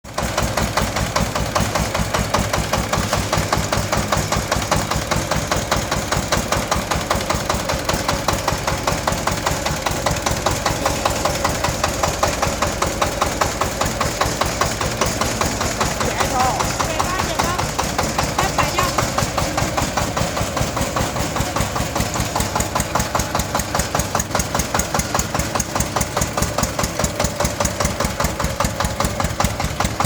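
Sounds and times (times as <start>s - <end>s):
tractor engine chugging: 0.0s - 30.0s.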